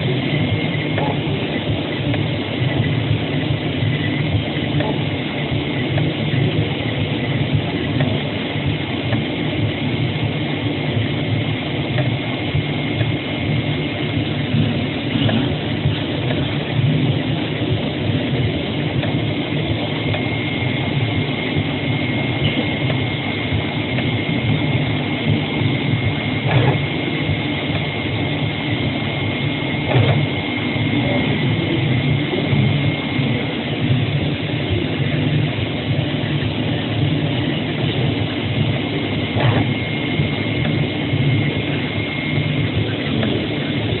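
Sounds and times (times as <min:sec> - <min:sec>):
cutting plotter mechanical hum: 0:00.0 - 0:44.0.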